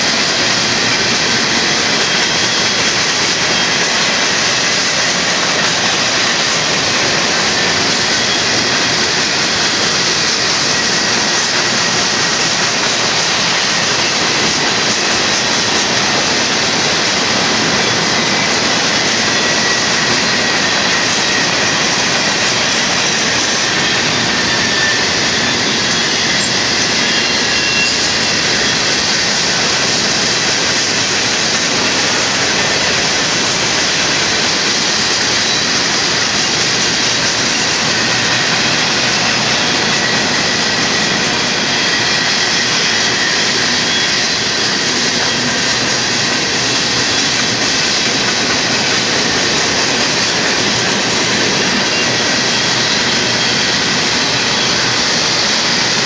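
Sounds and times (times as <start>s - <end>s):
train wheels rumbling on rail: 0.0s - 56.0s
wheels squealing: 0.0s - 56.0s.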